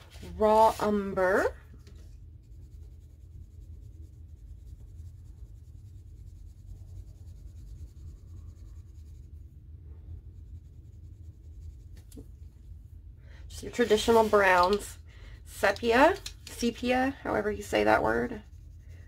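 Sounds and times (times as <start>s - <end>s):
low steady hum: 0.0s - 19.0s
colored pencil scribbling on paper: 0.2s - 12.2s, 13.7s - 14.8s, 15.6s - 19.0s.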